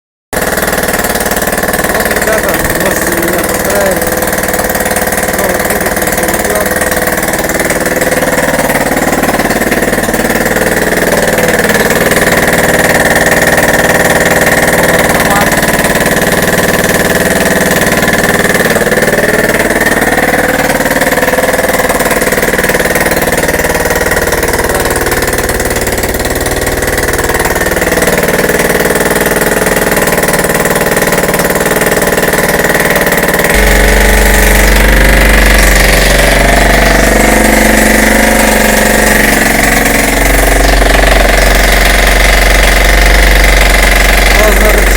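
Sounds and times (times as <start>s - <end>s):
small engine running near idle: 0.4s - 44.9s.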